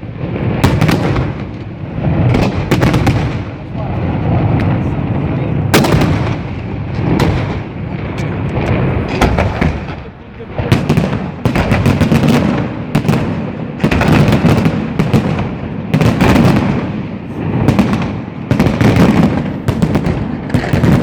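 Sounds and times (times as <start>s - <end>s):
fireworks launching and bursting: 0.0s - 21.0s
fireworks rolling rumble: 0.0s - 21.0s.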